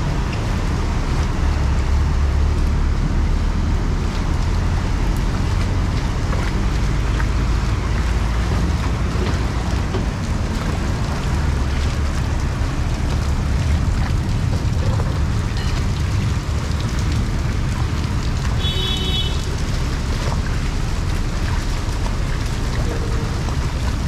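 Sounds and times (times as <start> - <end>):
heavy rain on street: 0.0 - 24.0.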